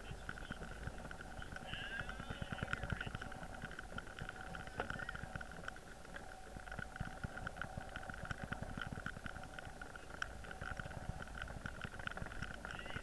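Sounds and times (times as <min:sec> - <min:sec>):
low knocks and crackles: 0:00.0 - 0:13.0
steady high underwater hum: 0:00.0 - 0:13.0.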